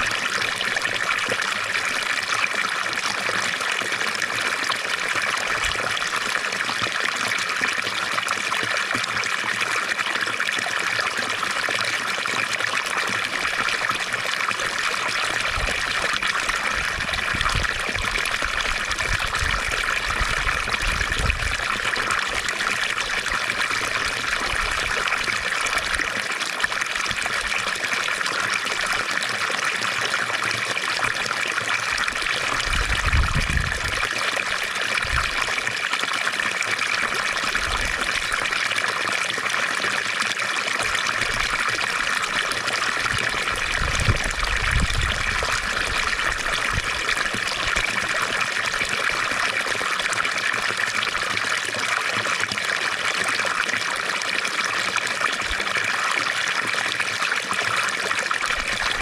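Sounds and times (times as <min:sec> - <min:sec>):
fountain water trickling and splashing: 0:00.0 - 0:59.0.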